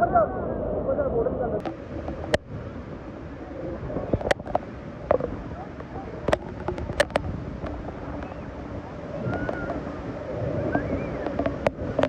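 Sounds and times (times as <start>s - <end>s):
wind buffeting microphone: 0.0s - 12.0s
waterfall rushing: 1.6s - 12.0s.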